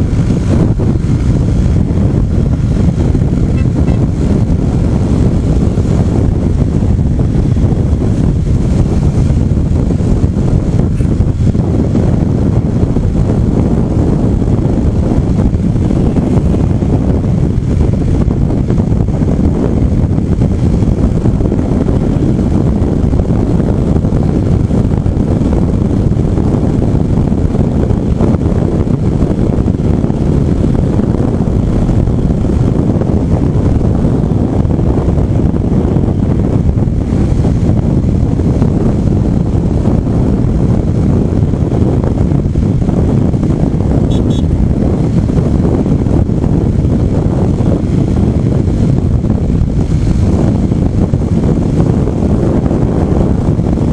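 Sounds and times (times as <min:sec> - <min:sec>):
motorcycle engine: 0:00.0 - 0:53.9
road noise: 0:00.0 - 0:53.9
wind rumble on microphone: 0:00.0 - 0:53.9.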